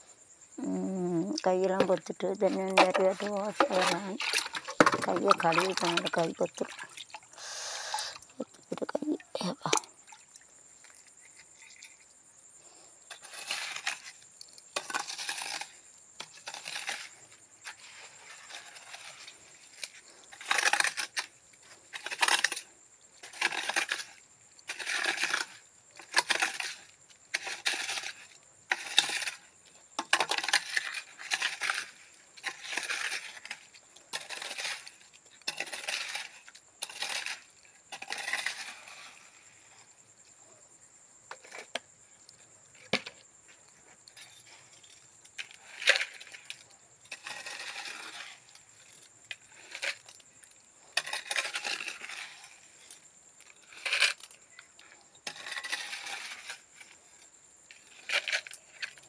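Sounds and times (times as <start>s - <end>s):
tool scraping wet cement: 1.6s - 9.9s, 12.7s - 22.6s, 23.2s - 39.6s, 41.3s - 59.0s.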